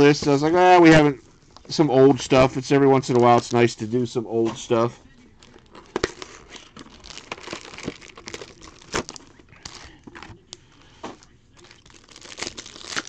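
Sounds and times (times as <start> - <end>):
foil packs crinkling: 1.6 - 13.0.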